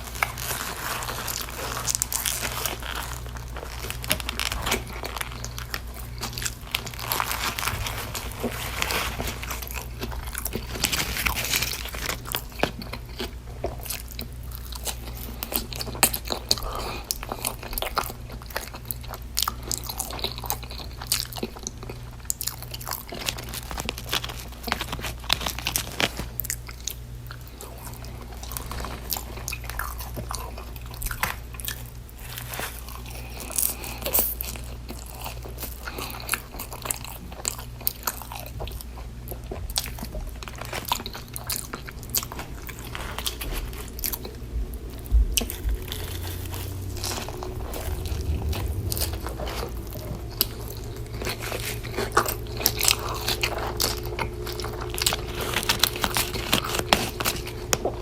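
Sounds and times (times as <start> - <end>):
biting and chewing food: 0.0 - 58.0
faint low hum: 0.0 - 58.0.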